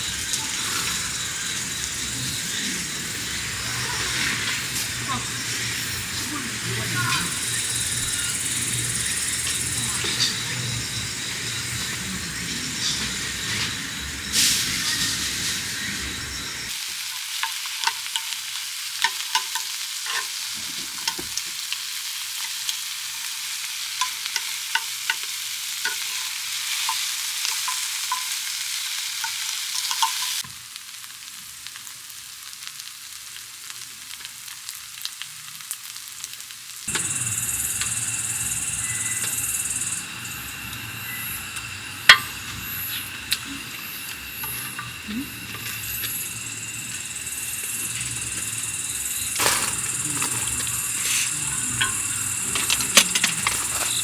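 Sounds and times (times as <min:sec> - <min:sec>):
steady hiss: 0:00.0 - 0:30.4, 0:36.9 - 0:54.0
food sizzling on a griddle: 0:00.0 - 0:54.0.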